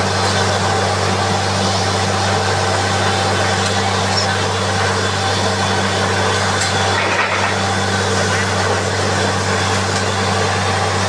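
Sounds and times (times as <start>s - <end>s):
drilling rig engine drone: 0.0s - 11.0s.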